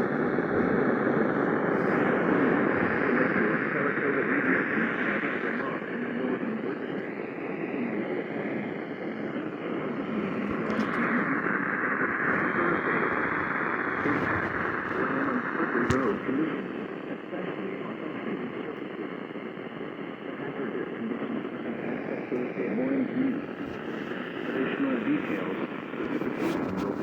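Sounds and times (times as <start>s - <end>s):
radio static hiss: 0.0s - 27.0s.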